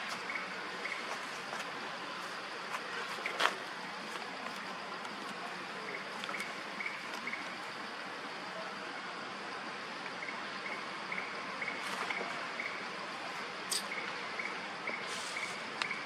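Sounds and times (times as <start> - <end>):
steady hiss like running water: 0.0 - 16.0.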